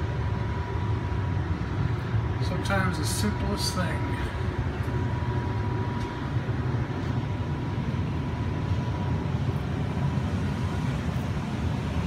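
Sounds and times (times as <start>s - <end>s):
gas furnace rumbling: 0.0s - 12.0s.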